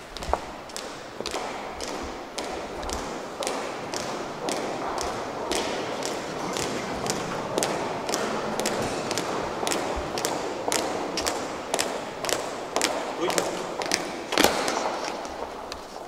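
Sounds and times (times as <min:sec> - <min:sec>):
footsteps on a hard surface: 0:00.0 - 0:16.0
steady background hiss: 0:00.0 - 0:16.0.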